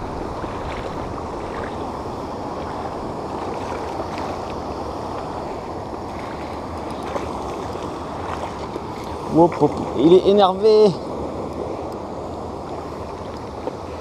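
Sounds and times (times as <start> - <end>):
low rushing water: 0.0 - 14.0.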